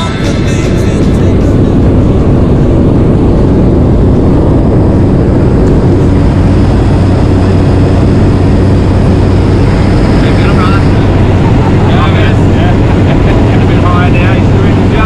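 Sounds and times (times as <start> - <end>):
plane engine and propeller noise: 0.0 - 15.0.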